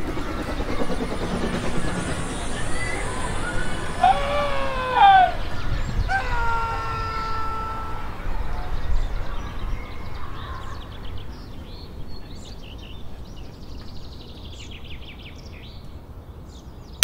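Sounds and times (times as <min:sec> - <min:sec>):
songbirds chirping and trilling: 0:00.9 - 0:17.0.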